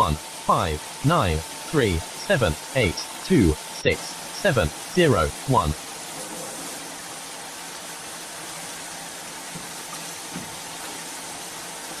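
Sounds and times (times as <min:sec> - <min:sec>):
water rushing through machine: 0:00.0 - 0:12.0.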